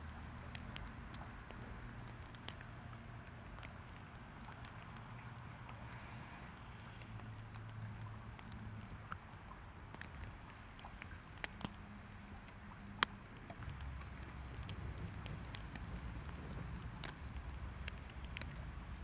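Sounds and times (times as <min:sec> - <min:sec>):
faint clicks: 0:00.0 - 0:11.8, 0:12.4 - 0:18.7.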